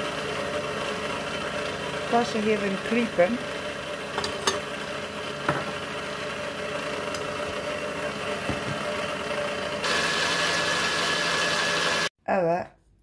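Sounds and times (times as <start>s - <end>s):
electric stand mixer running: 0.0s - 12.1s.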